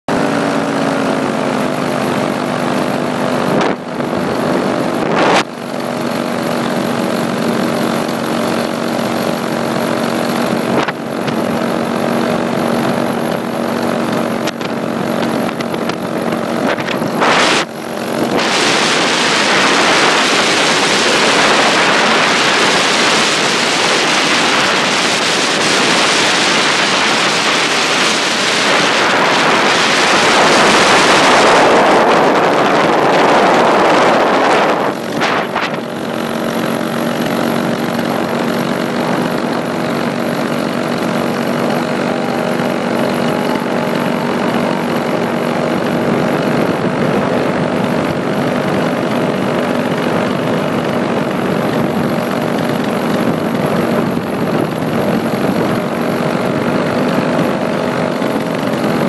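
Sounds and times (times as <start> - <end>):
paramotor engine droning: 0.1 - 59.0
wind rushing over microphone: 0.1 - 59.0.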